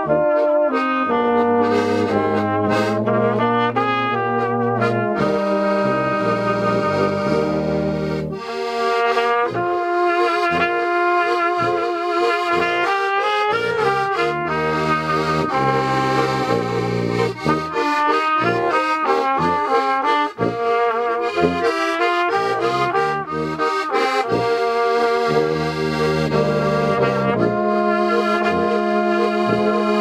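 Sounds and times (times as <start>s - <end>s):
baritone horn: 0.0s - 30.0s
button accordion playing: 0.0s - 30.0s
trumpet: 0.0s - 30.0s
tuba bass notes: 0.0s - 30.0s.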